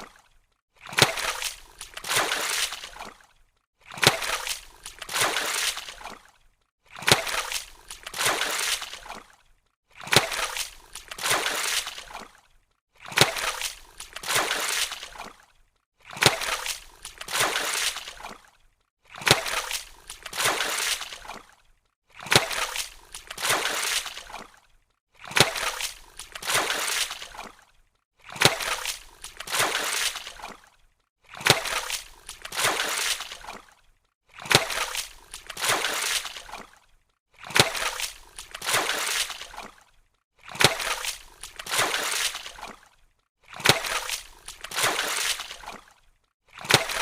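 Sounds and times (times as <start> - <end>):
water splashing: 0.0 - 47.0.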